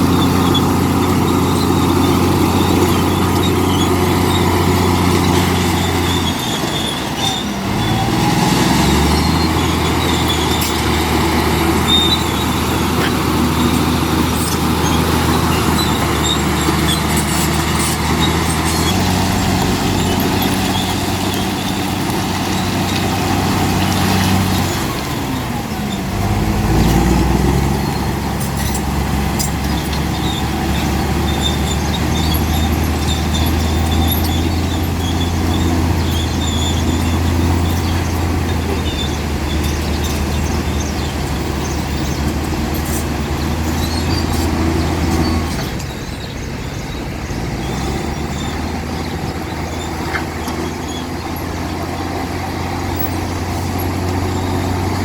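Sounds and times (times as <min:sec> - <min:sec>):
large diesel engine revving: 0:00.0 - 0:55.0.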